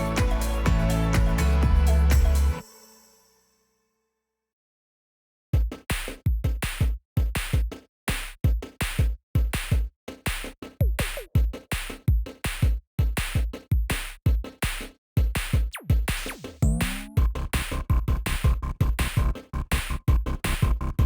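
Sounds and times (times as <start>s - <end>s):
electronic music with drum-machine beat: 0.0s - 2.6s, 5.6s - 21.0s.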